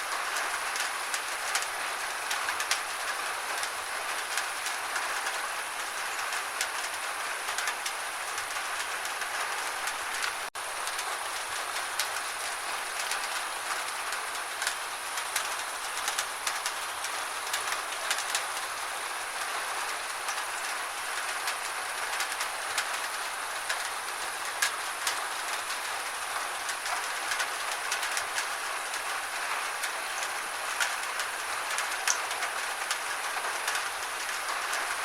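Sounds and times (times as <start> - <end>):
gentle rain falling: 0.0 - 35.0
raindrops ticking on a surface: 0.0 - 35.0.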